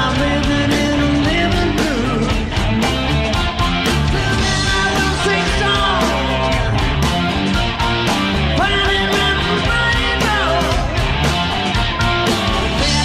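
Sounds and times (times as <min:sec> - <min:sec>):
blues-rock band playing: 0:00.0 - 0:13.0
electric guitar lead: 0:00.0 - 0:13.0.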